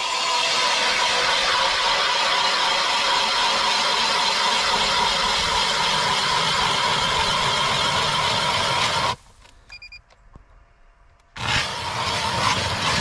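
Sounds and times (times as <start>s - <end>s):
ice auger drill whirring: 0.0s - 9.2s, 11.4s - 13.0s.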